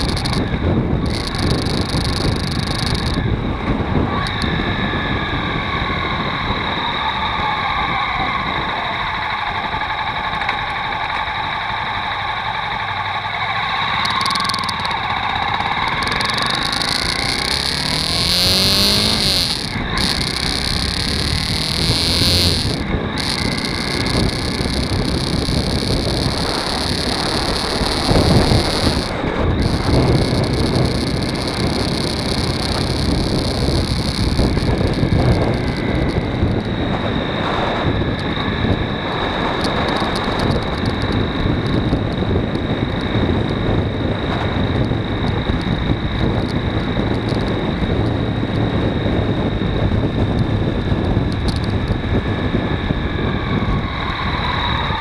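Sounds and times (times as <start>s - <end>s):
motorcycle engine running: 0.0s - 5.4s, 9.7s - 53.2s
wind noise on microphone: 0.0s - 12.4s, 14.0s - 55.0s.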